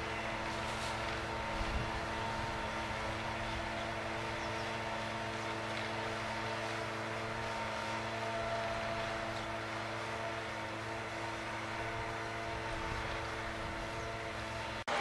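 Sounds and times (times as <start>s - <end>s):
tractor diesel engine drone: 0.0s - 15.0s.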